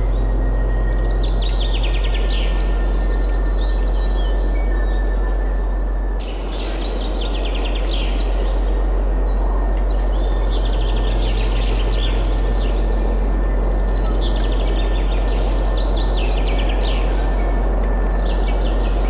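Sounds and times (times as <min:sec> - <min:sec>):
small birds singing: 0:00.0 - 0:19.0
wind noise with deep rumble: 0:00.0 - 0:19.0.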